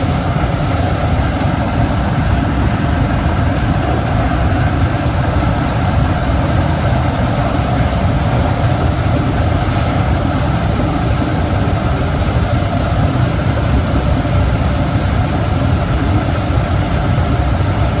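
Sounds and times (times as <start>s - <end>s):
pellet burner deep rumble: 0.0s - 18.0s.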